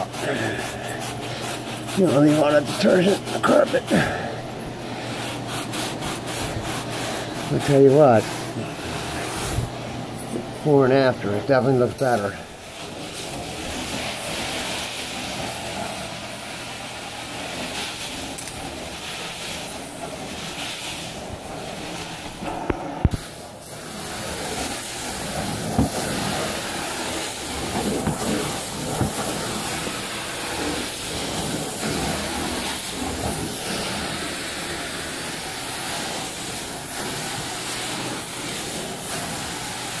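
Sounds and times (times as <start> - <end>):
carpet extractor vacuum running: 0.0 - 40.0.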